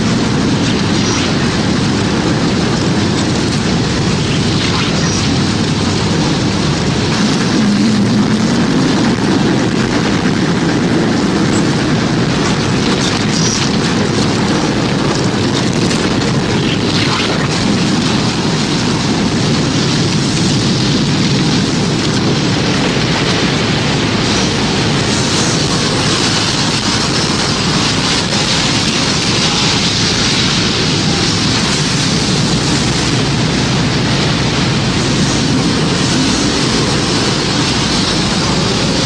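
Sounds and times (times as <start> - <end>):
low rumble of wind: 0.0 - 39.0.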